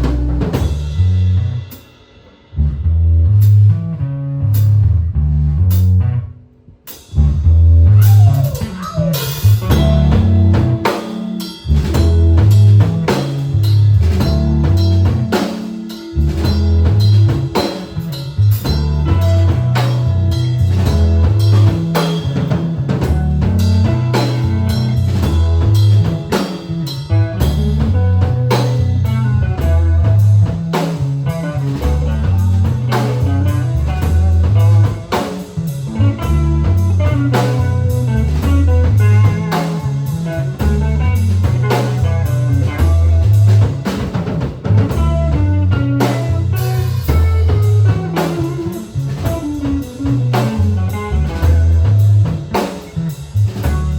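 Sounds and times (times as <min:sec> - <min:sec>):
bass line: 0:00.0 - 0:53.9
drum kit beat: 0:00.0 - 0:53.9
guitar: 0:00.0 - 0:53.9
live band playing soul-rock: 0:00.0 - 0:53.9.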